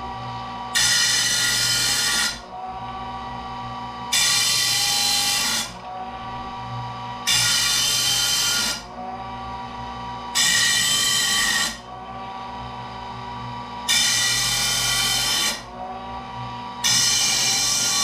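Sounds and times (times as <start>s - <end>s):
grinder motor humming: 0.0s - 18.0s
grinding wheel grinding saw tooth: 0.0s - 18.0s.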